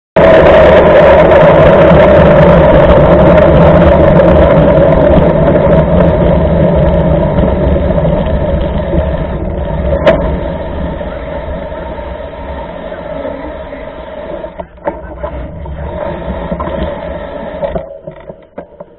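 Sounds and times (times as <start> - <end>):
bike tyres rolling on wet road: 0.2 - 18.9.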